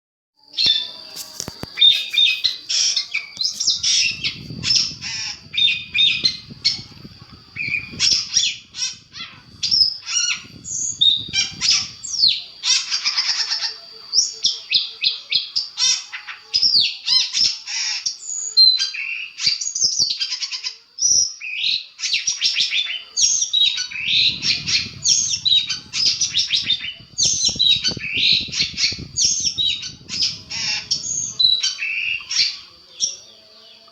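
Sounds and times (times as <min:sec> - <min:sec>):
shrike singing rapid trills: 0:00.4 - 0:33.9.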